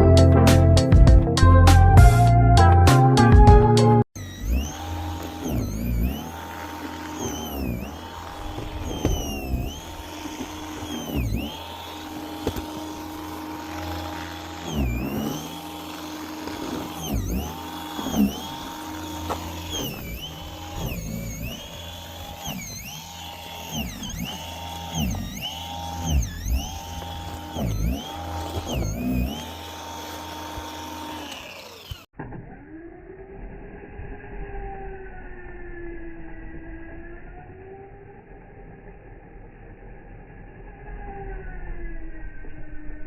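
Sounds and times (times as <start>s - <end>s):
electric snow shovel motor whining: 4.1s - 43.0s.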